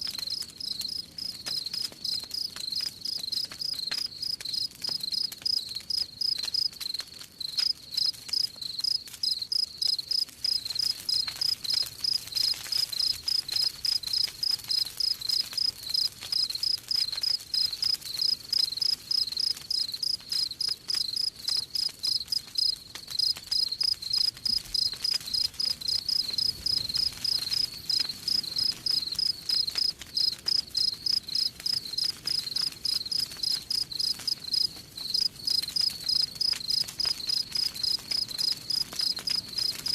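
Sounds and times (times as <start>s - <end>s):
faint campfire crackle: 0.0s - 39.9s
crickets chirping: 7.7s - 39.8s.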